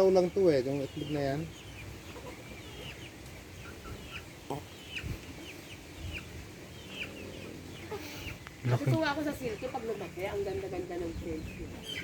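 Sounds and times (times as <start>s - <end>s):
chickens peeping: 0.0s - 12.0s.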